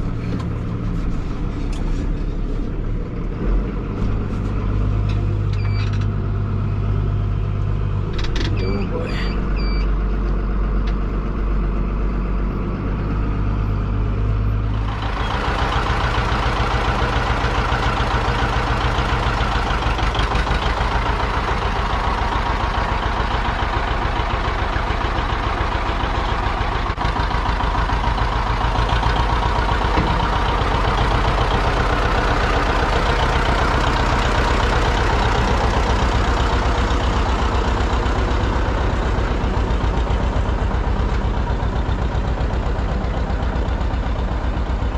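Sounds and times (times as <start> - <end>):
farm machine engine running: 0.0 - 44.9.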